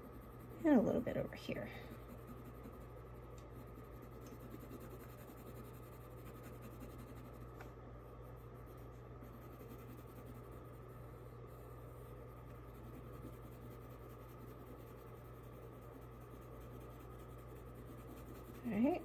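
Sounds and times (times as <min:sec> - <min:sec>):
pencil scratching on paper: 0:00.0 - 0:07.6, 0:08.2 - 0:19.0
low hum: 0:00.0 - 0:19.0.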